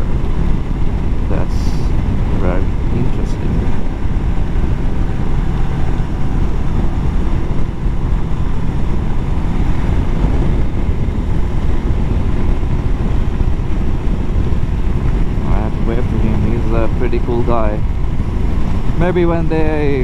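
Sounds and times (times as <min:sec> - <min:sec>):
motorcycle engine running: 0:00.0 - 0:20.0
road noise: 0:00.0 - 0:20.0
wind rush: 0:00.0 - 0:20.0.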